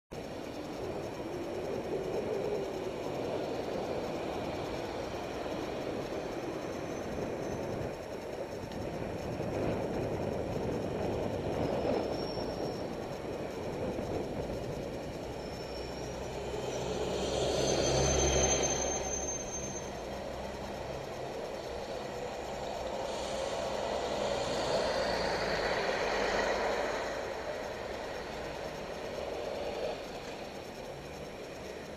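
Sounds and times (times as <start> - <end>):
road and wind noise: 0.1 - 31.9
thin high whine: 0.1 - 31.9
trams passing on tracks: 0.1 - 31.9
vehicle engine hum: 0.1 - 31.9.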